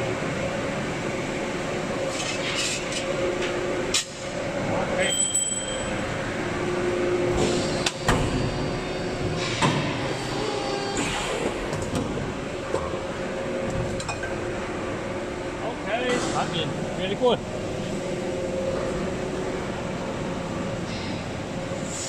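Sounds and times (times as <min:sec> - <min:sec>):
forging press and factory machinery: 0:00.0 - 0:22.0.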